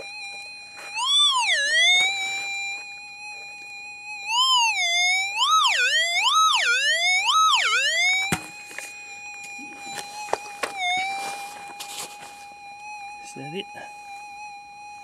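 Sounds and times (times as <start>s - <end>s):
metal detector tone warbling: 0.0s - 14.4s.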